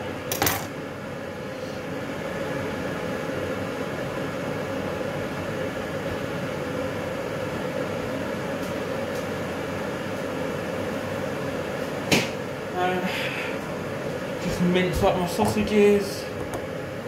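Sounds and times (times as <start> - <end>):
kitchen appliance humming: 0.0 - 17.0.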